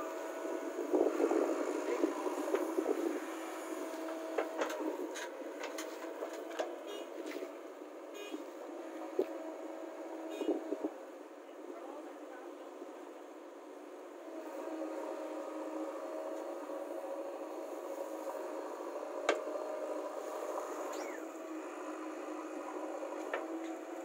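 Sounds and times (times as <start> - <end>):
backhoe engine running: 0.0 - 11.4, 14.1 - 24.0.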